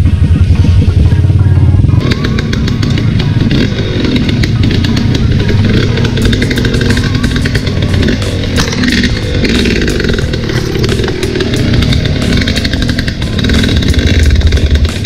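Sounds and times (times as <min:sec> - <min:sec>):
background music: 0:00.0 - 0:15.0
motorcycle engine running: 0:00.0 - 0:15.0
rapid clicking and clatter: 0:01.9 - 0:15.0.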